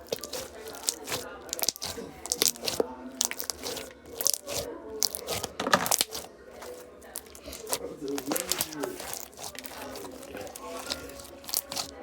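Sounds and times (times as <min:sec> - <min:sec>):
crunchy slime being squeezed: 0:00.0 - 0:12.0.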